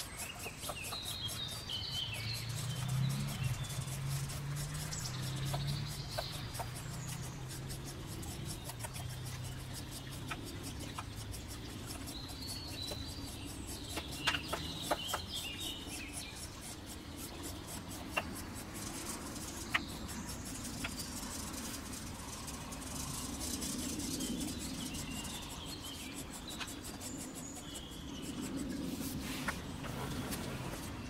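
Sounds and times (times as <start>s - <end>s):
birds chirping: 0.0s - 31.0s
sharp clicks: 0.1s - 28.7s.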